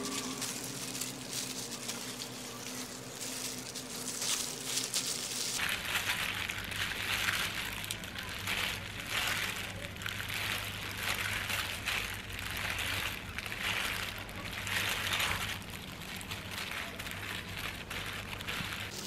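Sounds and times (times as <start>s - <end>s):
low steady hum: 0.0s - 19.0s
plastic gloves crinkling: 0.0s - 19.0s.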